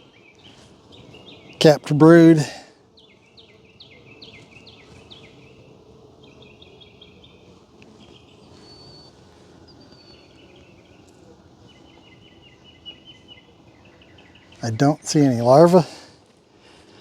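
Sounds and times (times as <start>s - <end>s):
honeybees humming: 0.0s - 17.0s
songbirds chirping: 0.0s - 17.0s.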